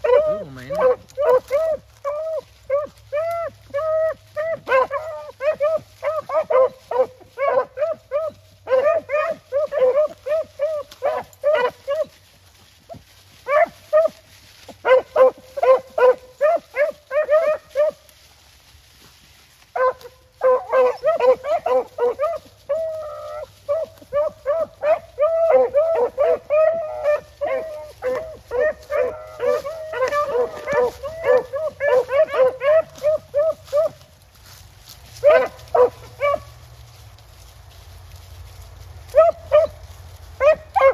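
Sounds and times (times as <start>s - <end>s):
hounds baying: 0.0s - 40.9s.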